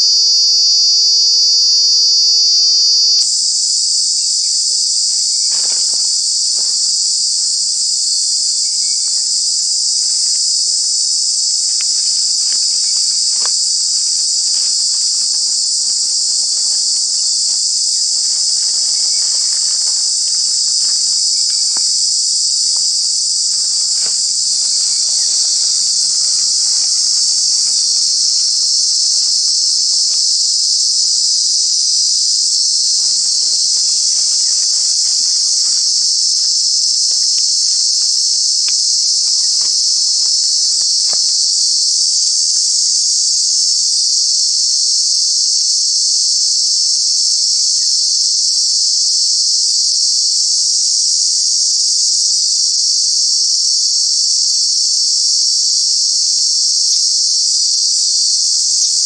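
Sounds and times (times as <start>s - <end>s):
cicada buzzing: 0.0s - 59.0s.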